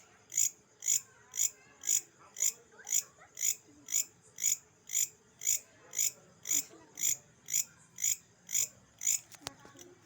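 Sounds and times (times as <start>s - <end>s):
insect chirping: 0.0s - 10.0s.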